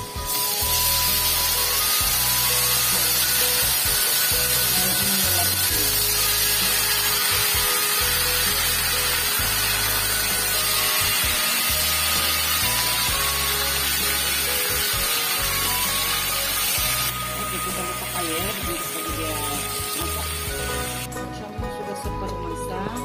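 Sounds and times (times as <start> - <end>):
vegetables sizzling in hot oil: 0.0 - 21.1
background music with bass line: 0.0 - 23.0.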